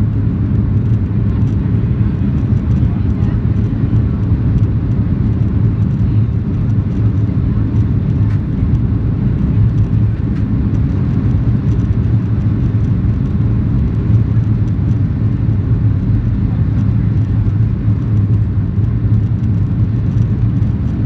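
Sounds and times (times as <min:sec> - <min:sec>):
jet engine rumble inside cabin: 0:00.0 - 0:21.0.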